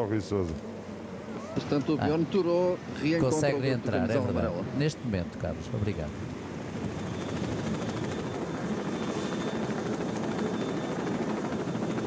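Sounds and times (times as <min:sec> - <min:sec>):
helicopter engine rumble: 0:00.0 - 0:12.0
helicopter rotor chop: 0:00.0 - 0:12.0.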